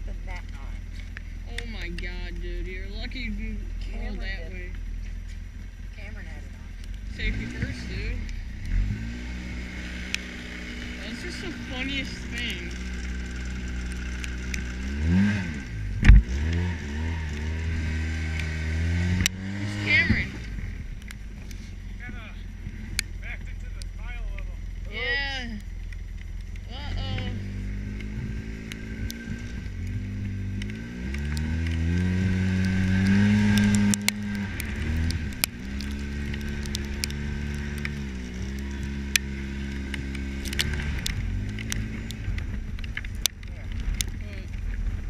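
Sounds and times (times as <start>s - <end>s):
utility vehicle engine revving: 0.0s - 45.0s.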